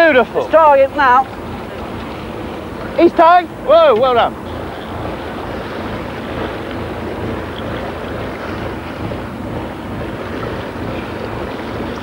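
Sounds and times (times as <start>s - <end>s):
boat engine drone: 0.0s - 12.0s
water washing along hull: 0.0s - 12.0s
wind buffeting microphone: 0.0s - 12.0s.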